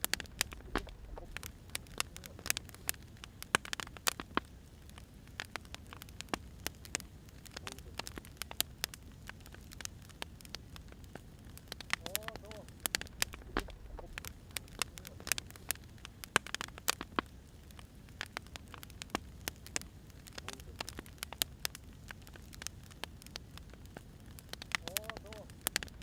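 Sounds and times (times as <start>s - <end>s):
faint low rumble: 0.0s - 26.0s
firewood crackling and popping: 0.0s - 26.0s.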